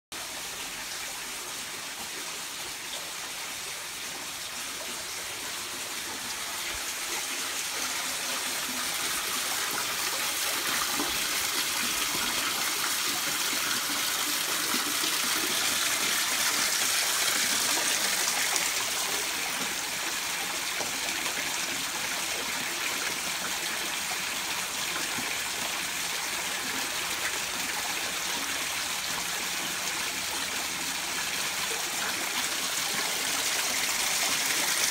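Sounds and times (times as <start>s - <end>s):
water pouring and splashing: 0.2s - 34.9s.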